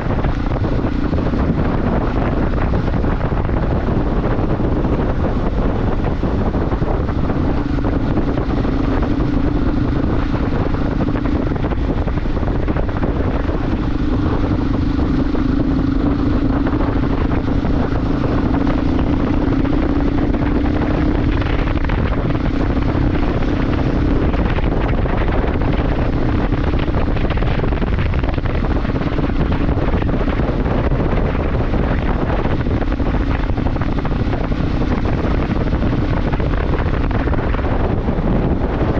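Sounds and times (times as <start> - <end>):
motorcycle engine hum: 0.0 - 38.9
wind noise on microphone: 0.0 - 38.9.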